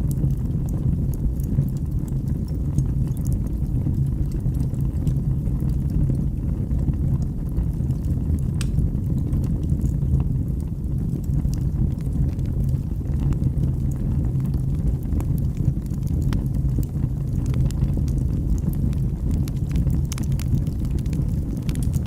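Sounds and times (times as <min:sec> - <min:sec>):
fire crackles and pops: 0:00.0 - 0:22.0
fire rumbling in a fireplace: 0:00.0 - 0:22.0.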